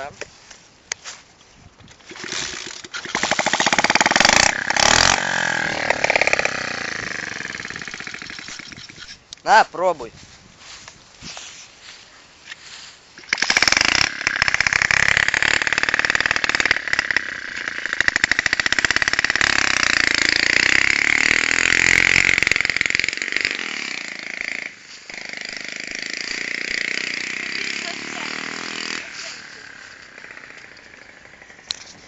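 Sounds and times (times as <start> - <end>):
moped engine starting and revving: 2.0 - 9.1, 13.2 - 32.0.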